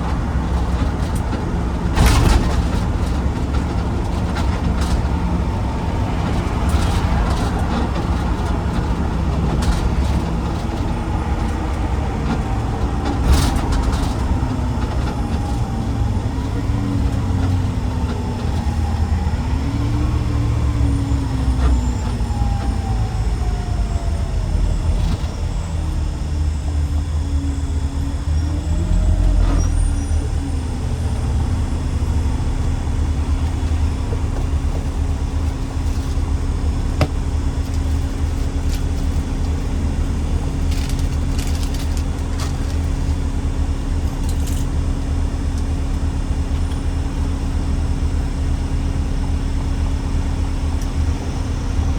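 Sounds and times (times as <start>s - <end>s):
heavy truck engine rumbling: 0.0s - 51.9s.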